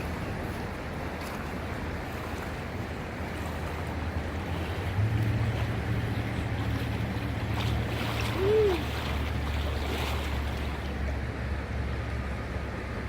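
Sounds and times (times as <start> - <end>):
flowing creek water: 0.0 - 13.0.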